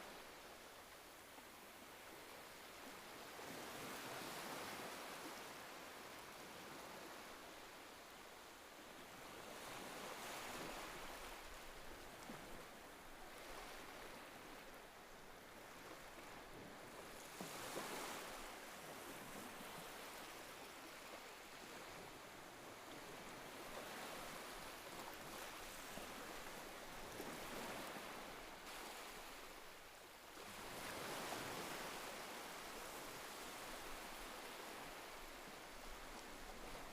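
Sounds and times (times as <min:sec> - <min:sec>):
faint ocean waves washing in: 0:00.0 - 0:36.9.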